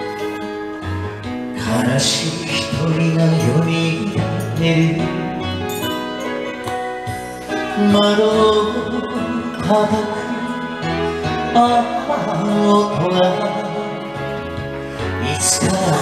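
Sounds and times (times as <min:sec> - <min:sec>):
karaoke backing track: 0:00.0 - 0:16.0
man singing into microphone: 0:01.5 - 0:16.0.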